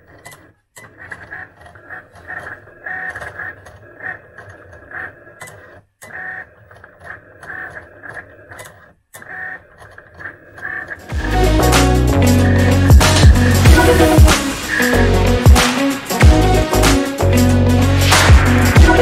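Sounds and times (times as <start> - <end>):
cutting machine motors whining: 0.0 - 19.0.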